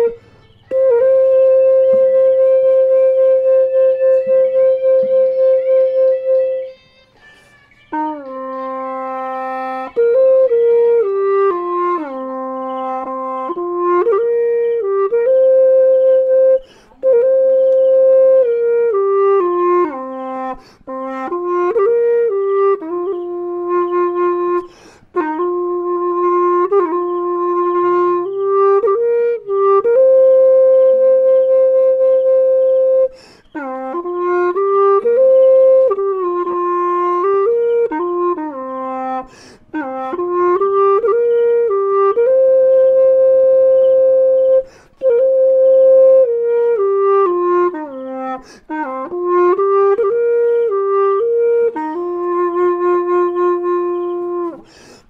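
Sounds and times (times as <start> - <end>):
backing accompaniment: 0.0 - 55.0
bamboo flute melody: 0.0 - 55.0.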